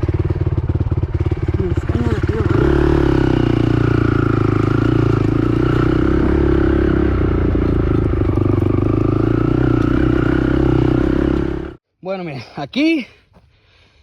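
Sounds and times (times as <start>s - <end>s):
atv engine running: 0.0s - 11.8s.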